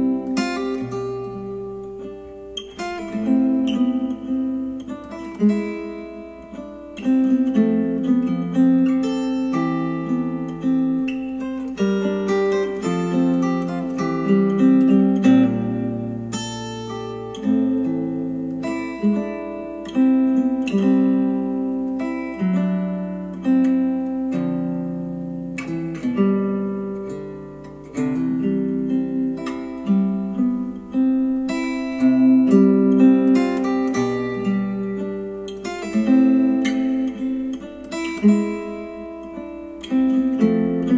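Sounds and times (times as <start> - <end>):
acoustic guitar music: 0.0 - 40.9.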